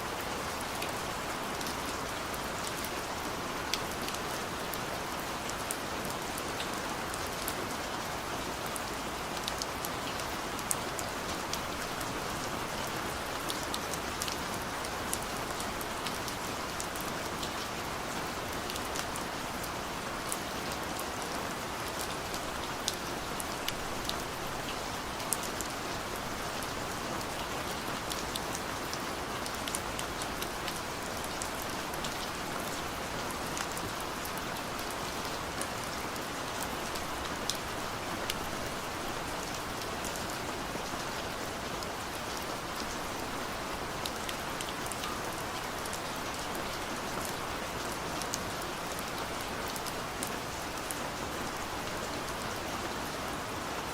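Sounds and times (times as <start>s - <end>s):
raindrops ticking on surfaces: 0.1s - 53.9s.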